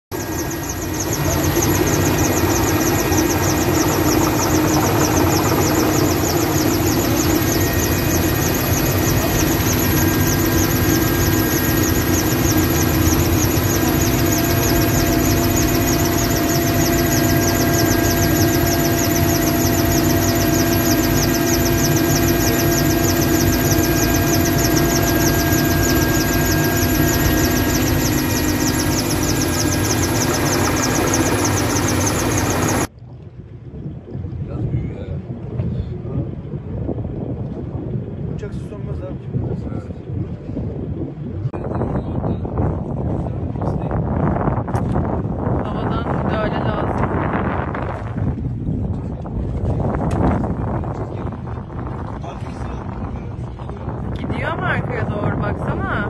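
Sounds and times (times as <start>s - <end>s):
helicopter turbine and rotor drone: 0.1s - 56.0s.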